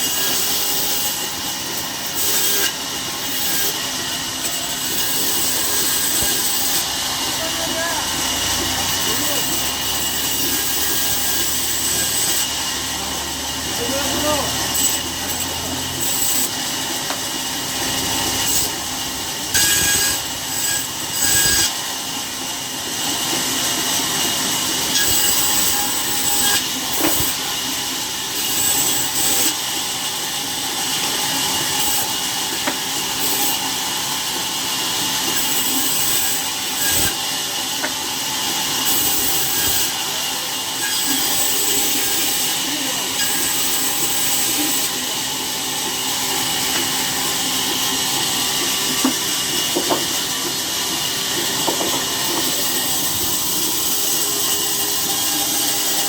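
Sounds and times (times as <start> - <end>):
saw cutting through wood: 0.0 - 56.0.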